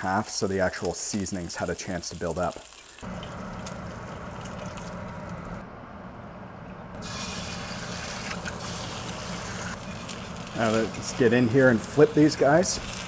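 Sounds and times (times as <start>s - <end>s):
bacon fat sizzling and crackling: 0.0s - 5.6s, 7.0s - 13.0s.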